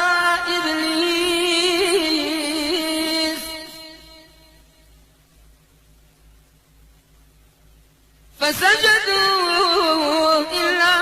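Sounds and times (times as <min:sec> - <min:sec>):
low steady hum: 0:00.0 - 0:11.0
soft hiss: 0:00.0 - 0:11.0.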